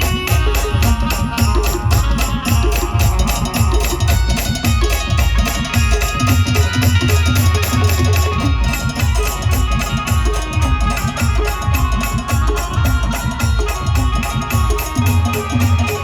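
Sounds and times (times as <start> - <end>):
heavy drums beating: 0.0 - 16.0
live band playing loudly: 0.0 - 16.0.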